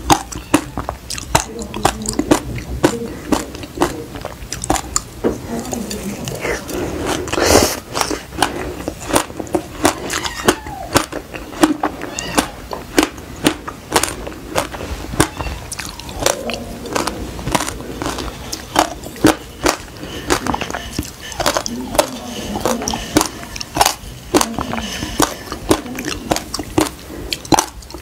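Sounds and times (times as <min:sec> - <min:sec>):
crisp chewing crunches: 0:00.0 - 0:28.0.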